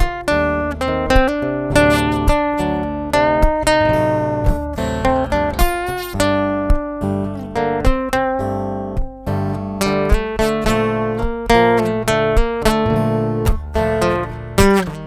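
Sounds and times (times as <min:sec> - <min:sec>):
acoustic guitar chords strummed: 0:00.0 - 0:15.0.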